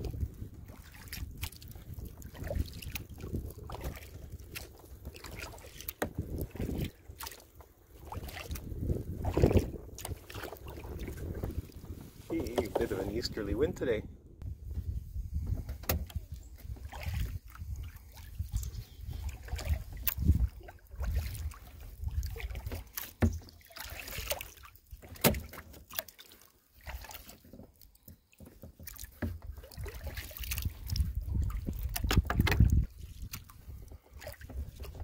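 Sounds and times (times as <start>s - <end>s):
water drips and splashes: 0.0s - 12.9s, 16.0s - 35.0s
kayak paddle strokes on water: 0.0s - 13.9s, 14.6s - 35.0s
wind rumble on microphone: 0.0s - 23.4s, 29.2s - 35.0s
water lapping at hull: 0.0s - 35.0s.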